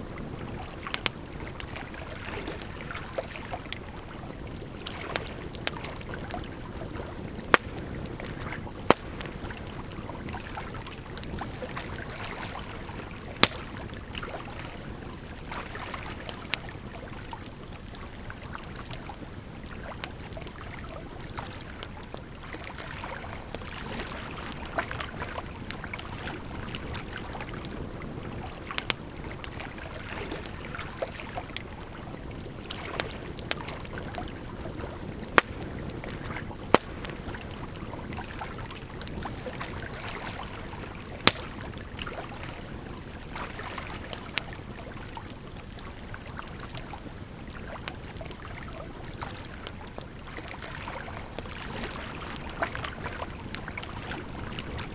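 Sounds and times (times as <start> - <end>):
firewood crackling and popping: 0.0 - 54.9.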